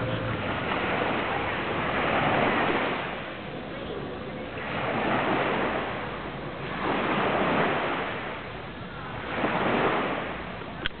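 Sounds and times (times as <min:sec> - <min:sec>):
small waves washing onto sand: 0:00.0 - 0:11.0.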